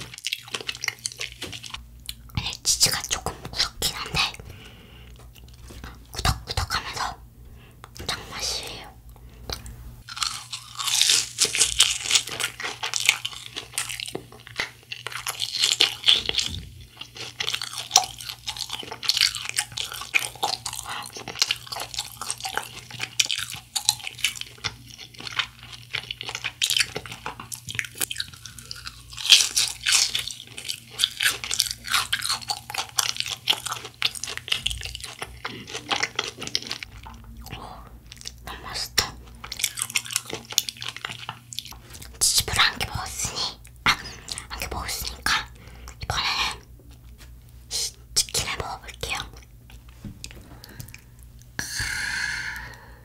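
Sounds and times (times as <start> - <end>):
crunching and chewing food: 0.0 - 51.6
faint low hum: 0.0 - 53.0.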